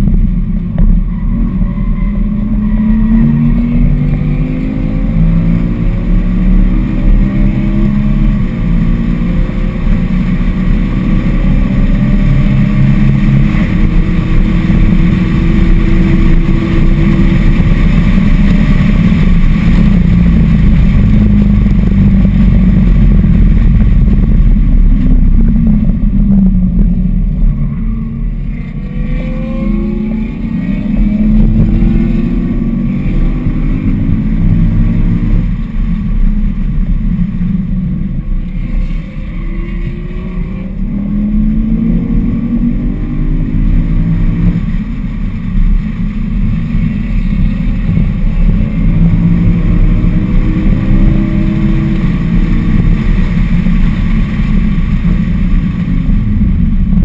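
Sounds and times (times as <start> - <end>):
car engine accelerating hard: 0.0 - 57.0
road and wind noise: 0.0 - 57.0.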